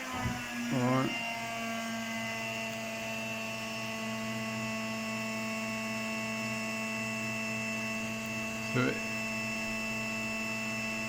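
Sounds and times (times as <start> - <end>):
cnc router humming: 0.0 - 11.0.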